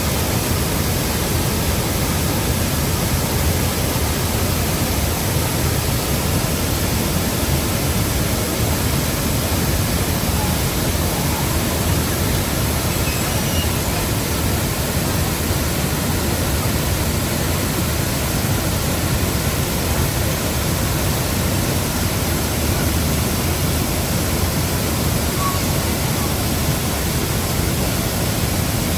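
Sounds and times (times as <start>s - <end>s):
waterfall rushing over rocks: 0.0s - 28.9s.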